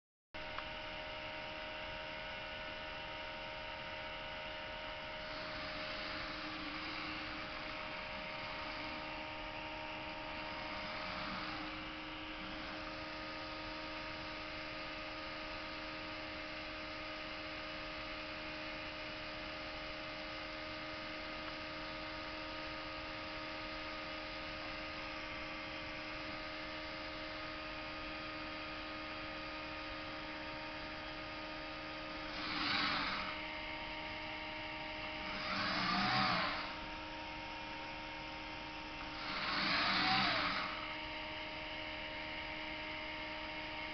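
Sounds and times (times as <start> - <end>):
electronics humming fixed tones: 0.4 - 43.9
small drive motors whirring: 0.4 - 43.9.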